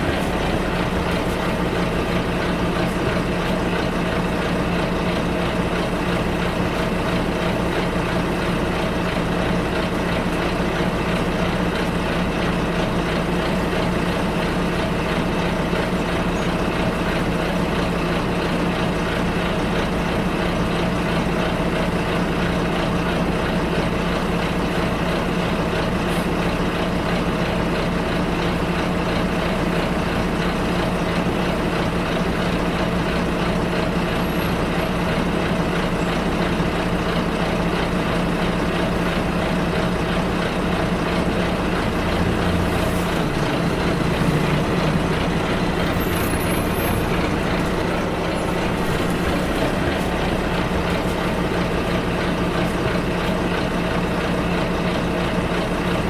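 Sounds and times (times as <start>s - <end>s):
bus engine humming: 0.0s - 56.0s
road noise: 0.0s - 56.0s.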